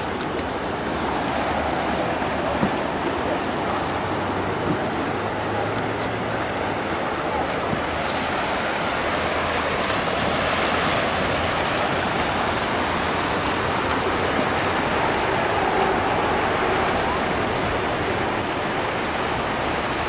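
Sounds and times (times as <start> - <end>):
whitewater rushing: 0.0 - 20.0.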